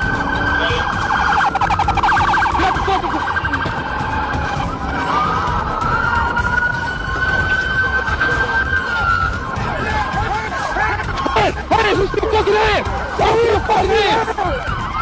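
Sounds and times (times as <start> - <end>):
police car siren wailing: 0.0 - 15.0.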